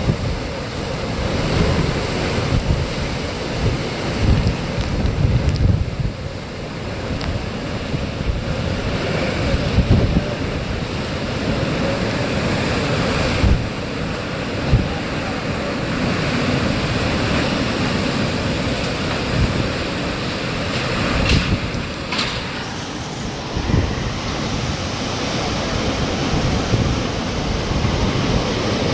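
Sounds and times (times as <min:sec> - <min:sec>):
strong wind blowing: 0:00.0 - 0:28.9
wind buffeting microphone: 0:00.0 - 0:28.9.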